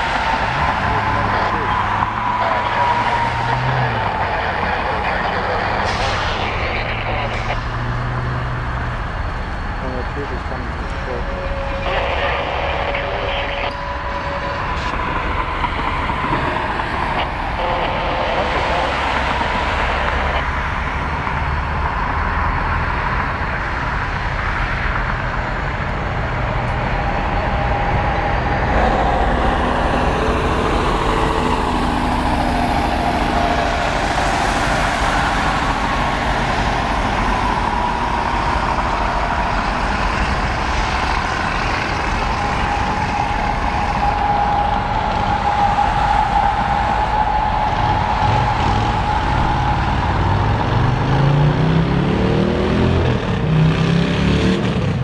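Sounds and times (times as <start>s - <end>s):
train cars rolling slowly: 0.0s - 51.5s
sustained tone: 0.0s - 54.2s.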